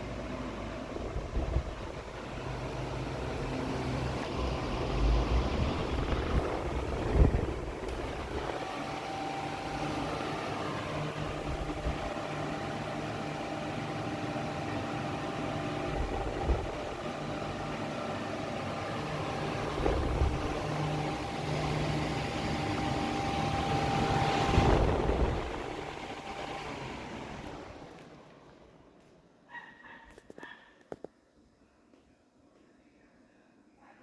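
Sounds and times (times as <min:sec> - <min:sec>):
fan whooshing air: 0:00.0 - 0:28.9
fan motor hum: 0:00.0 - 0:29.5.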